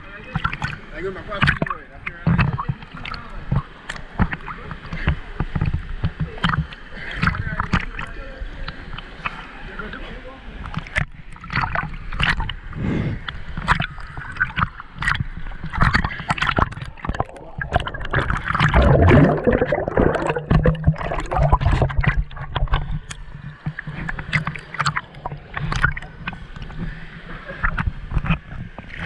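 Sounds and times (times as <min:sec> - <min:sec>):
river water sloshing and gurgling: 0:00.0 - 0:29.0
water slapping against camera housing: 0:01.4 - 0:08.1, 0:10.6 - 0:12.6, 0:13.5 - 0:26.9, 0:27.6 - 0:29.0.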